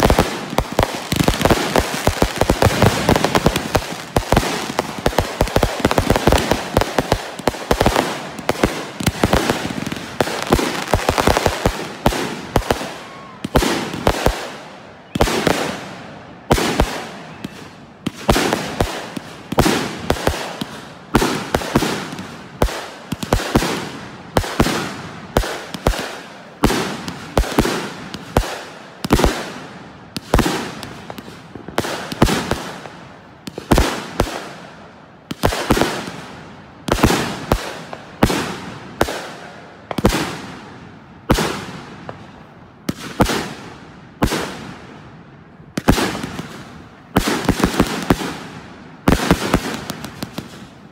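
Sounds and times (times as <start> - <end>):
fireworks bangs: 0.0 - 45.0, 45.7 - 50.9.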